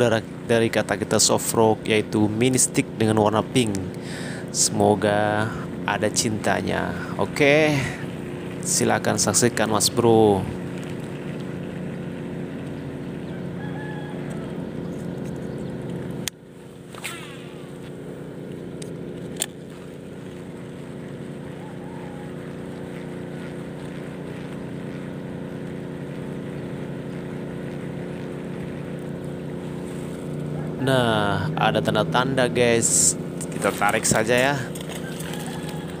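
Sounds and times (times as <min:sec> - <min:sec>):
low motor drone: 0:00.0 - 0:36.0.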